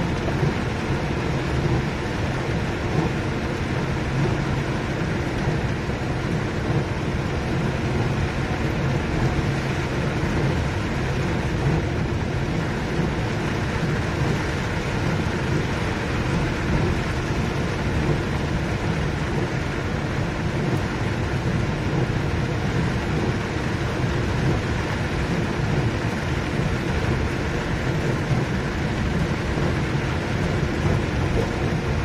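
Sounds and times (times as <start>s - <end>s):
deep steady rumble: 0.0s - 32.0s
heavy rain pouring: 0.0s - 32.0s.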